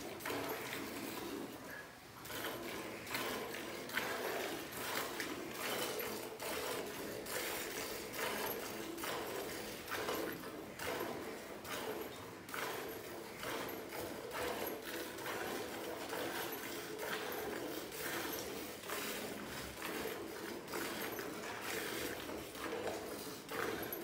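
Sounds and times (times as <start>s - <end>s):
milk squirting into pail: 0.0s - 24.0s.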